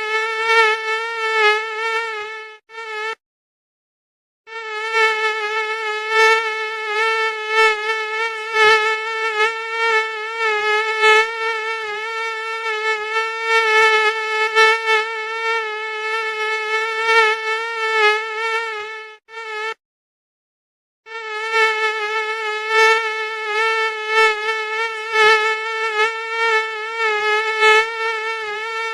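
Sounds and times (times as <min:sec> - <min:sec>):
mosquito whine: 0:00.0 - 0:03.2, 0:04.5 - 0:19.8, 0:21.1 - 0:28.9.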